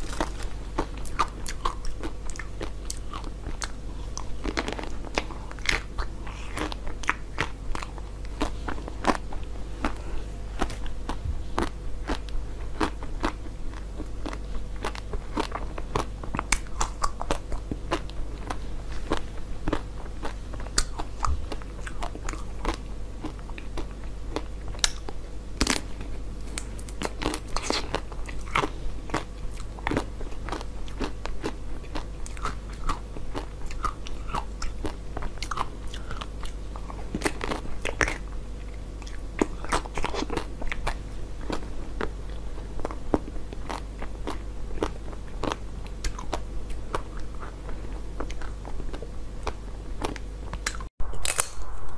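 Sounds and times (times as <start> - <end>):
chewing: 0.0 - 50.9
steady low hum: 0.0 - 51.9.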